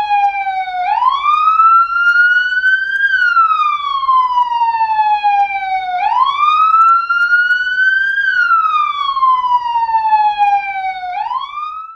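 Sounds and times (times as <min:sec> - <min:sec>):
police siren wailing: 0:00.0 - 0:11.9.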